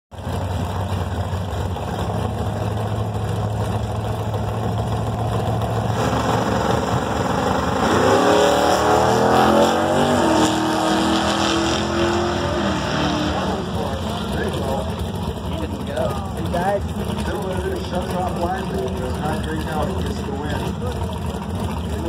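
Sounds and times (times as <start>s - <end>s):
race car engines idling: 0.1s - 22.0s
race car engine accelerating: 0.2s - 22.0s.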